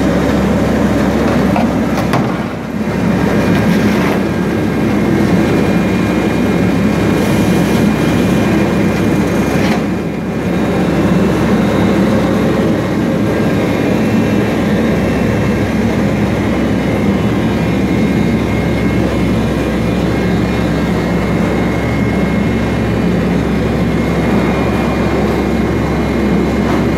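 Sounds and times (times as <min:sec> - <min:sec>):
machinery drone: 0:00.0 - 0:26.9
faint high whine: 0:04.7 - 0:26.9.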